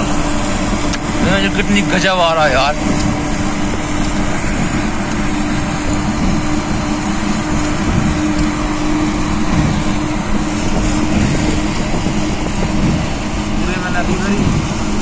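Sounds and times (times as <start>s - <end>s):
low engine hum: 0.0s - 15.0s
road noise: 0.0s - 15.0s
wind rushing: 0.0s - 15.0s.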